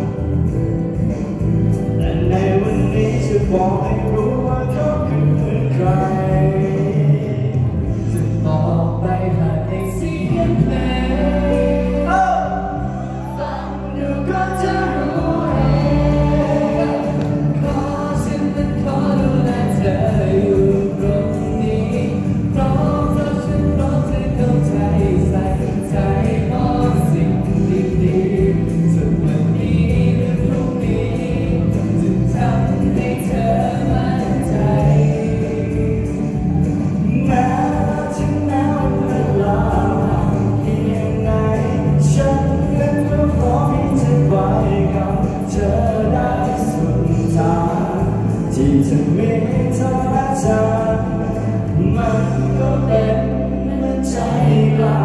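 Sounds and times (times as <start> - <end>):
men singing pop song: 0.0 - 55.0
recorded backing track: 0.0 - 55.0.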